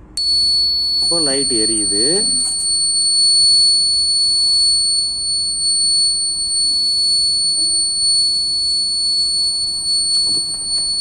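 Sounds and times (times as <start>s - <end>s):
alarm buzzer high-pitched tone: 0.0s - 11.0s.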